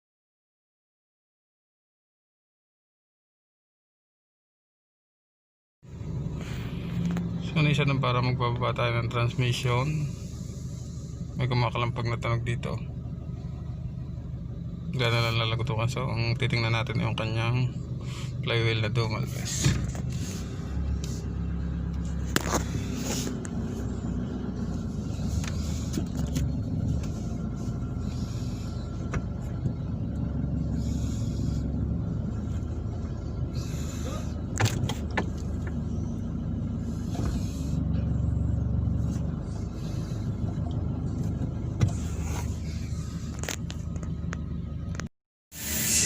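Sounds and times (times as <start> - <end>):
engine running: 5.8 - 46.0.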